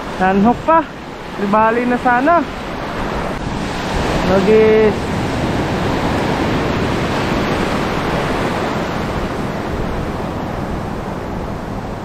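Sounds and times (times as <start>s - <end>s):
heavy sea surf: 0.0s - 12.0s
wind buffeting microphone: 0.0s - 12.0s.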